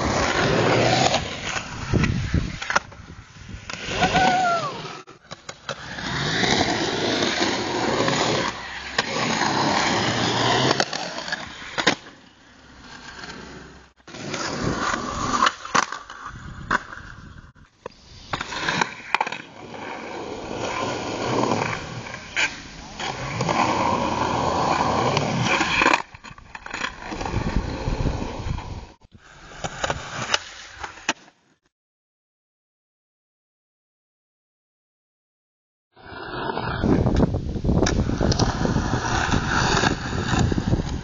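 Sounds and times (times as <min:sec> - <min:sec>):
skateboard wheels rolling on pavement: 0:00.0 - 0:31.6, 0:36.0 - 0:41.0.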